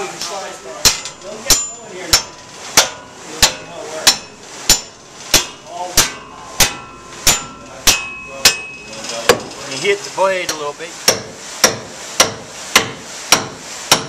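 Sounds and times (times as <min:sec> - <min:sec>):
sawmill saw knocking: 0:00.0 - 0:14.0.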